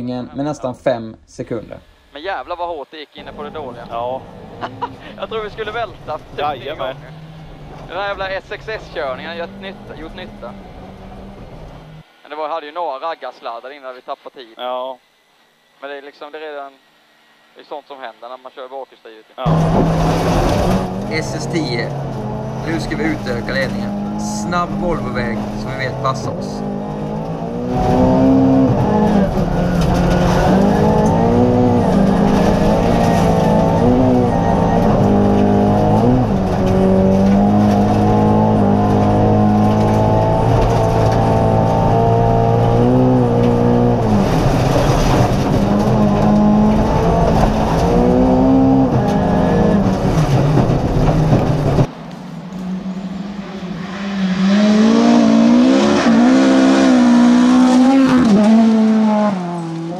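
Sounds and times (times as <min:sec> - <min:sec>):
rally car engine revving: 0:03.2 - 0:12.2, 0:19.4 - 0:59.9.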